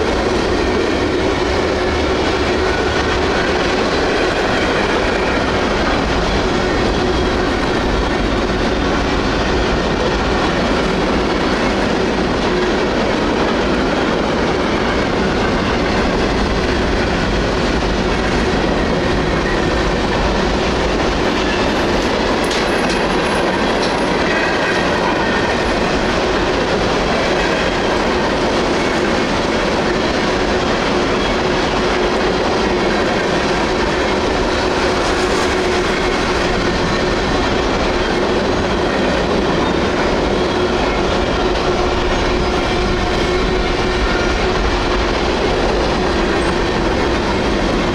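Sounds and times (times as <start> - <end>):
train wheels clacking on rails: 0.0 - 47.9.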